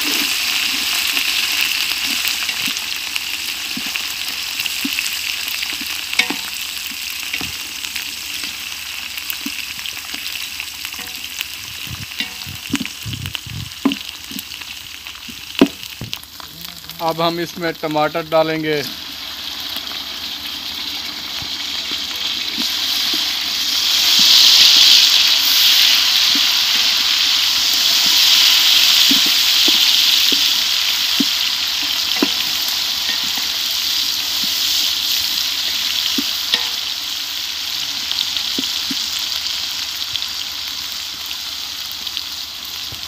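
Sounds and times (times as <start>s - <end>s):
tomatoes sizzling in a pot: 0.0s - 43.0s.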